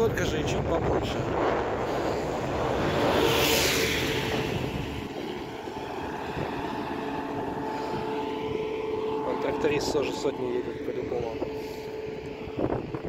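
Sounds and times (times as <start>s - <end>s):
steady engine drone: 0.0s - 13.0s
wind buffeting microphone: 0.0s - 13.0s
motor vehicle passing: 0.8s - 13.0s.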